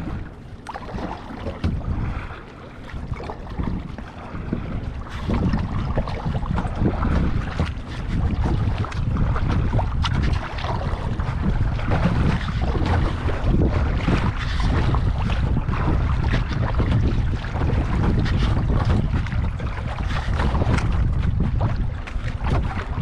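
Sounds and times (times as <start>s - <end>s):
waves splashing against kayak: 0.0s - 23.0s
wind buffeting microphone: 0.0s - 23.0s.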